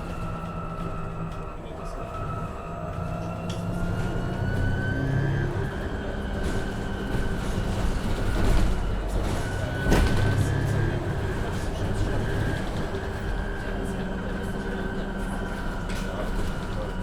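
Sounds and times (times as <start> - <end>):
electric bus drive whine: 0.0 - 17.0.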